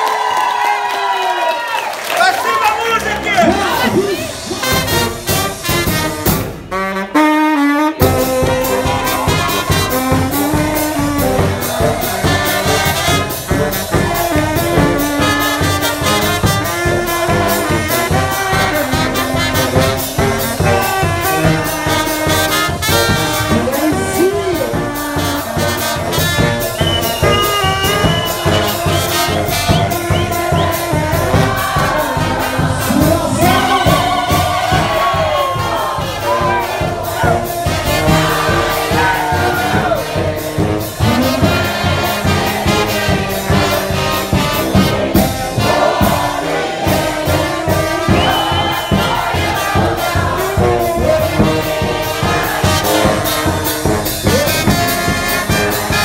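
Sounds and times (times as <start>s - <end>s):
trumpets and saxophone melody: 0.0s - 56.0s
bass drum and cymbal beat: 3.4s - 7.4s, 8.0s - 56.0s
tuba bass line: 3.4s - 56.0s.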